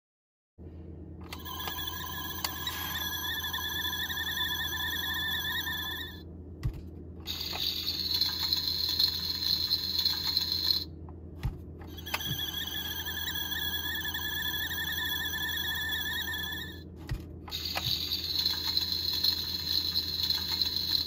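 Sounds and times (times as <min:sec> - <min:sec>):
wavering high electronic tone: 0:01.3 - 0:06.2, 0:07.3 - 0:10.9, 0:11.9 - 0:16.9, 0:17.5 - 0:21.0.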